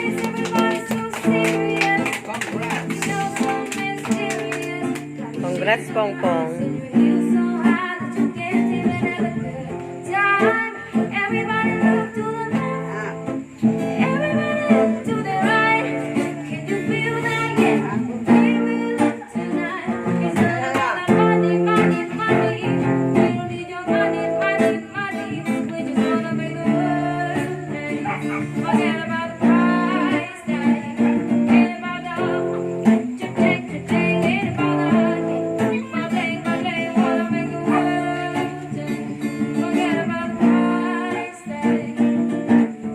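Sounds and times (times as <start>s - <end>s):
person singing: 0.0s - 9.6s, 10.3s - 42.7s
guitar: 0.0s - 42.9s.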